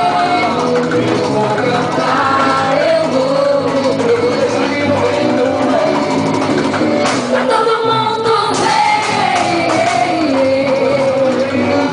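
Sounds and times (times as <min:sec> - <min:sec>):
person singing with accompaniment: 0:00.0 - 0:11.9.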